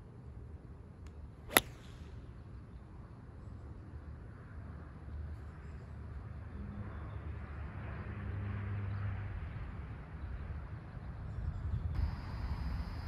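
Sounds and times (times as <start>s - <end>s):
faint low engine hum: 0.0s - 13.0s.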